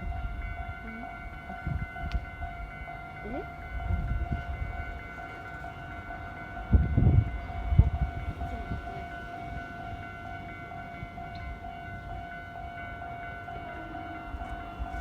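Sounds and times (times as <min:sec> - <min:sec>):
level crossing warning alarm: 0:00.0 - 0:15.0.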